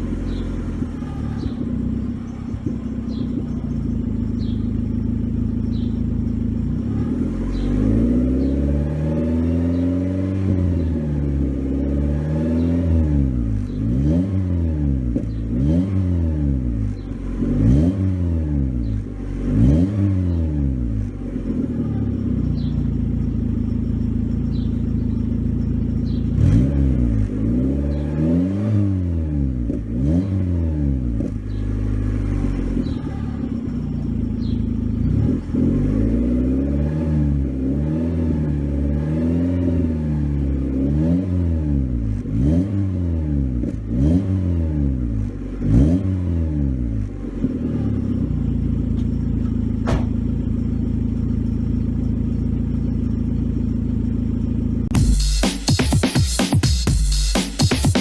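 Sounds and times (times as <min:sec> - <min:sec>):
car engine revving and idling: 0:00.0 - 0:58.0.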